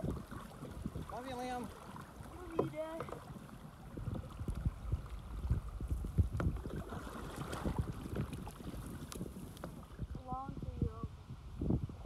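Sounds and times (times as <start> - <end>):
paddle splashes and hull knocks: 0.0 - 10.6
wind buffeting microphone: 0.0 - 12.0.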